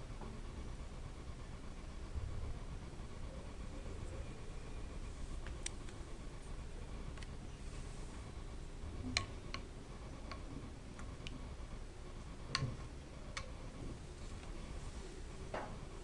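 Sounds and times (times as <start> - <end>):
room noise: 0.0 - 16.0.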